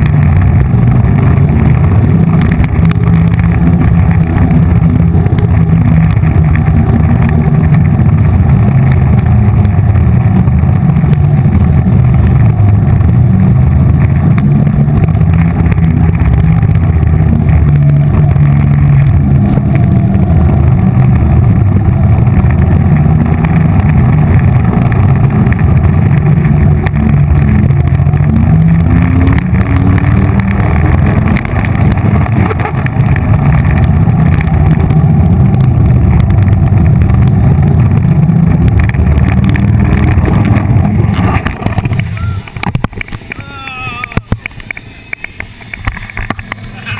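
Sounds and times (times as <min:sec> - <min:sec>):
roller skate wheels rumbling: 0:00.0 - 0:46.9.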